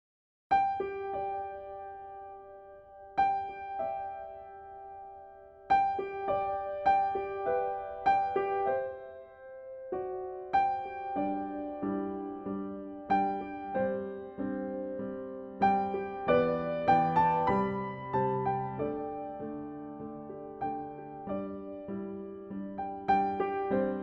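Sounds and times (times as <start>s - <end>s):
slow gentle piano music: 0.5s - 24.0s.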